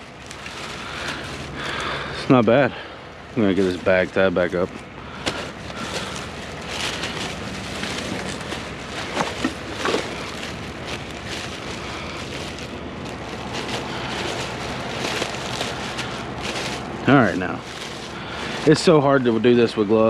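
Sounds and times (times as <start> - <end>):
plastic bag rustling: 0.0 - 20.0.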